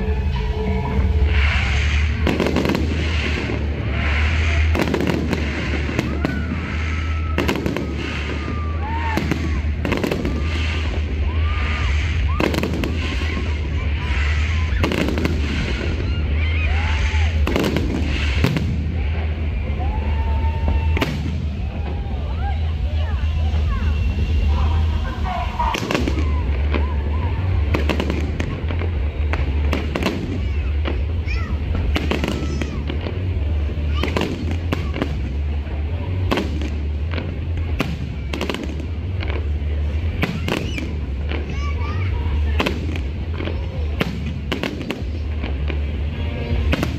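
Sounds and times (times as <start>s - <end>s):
fireworks bursting: 0.0s - 46.9s
steady low rumble: 0.0s - 46.9s.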